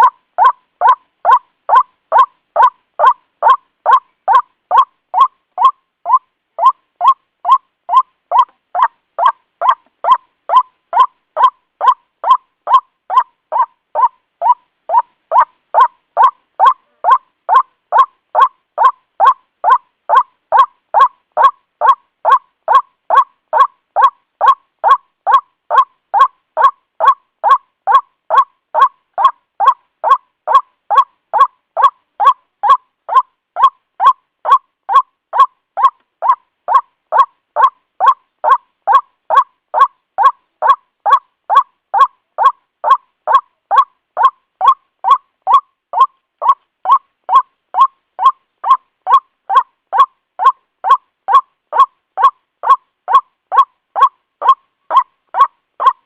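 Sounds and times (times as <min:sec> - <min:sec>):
waterhen calling: 0:00.0 - 0:56.0.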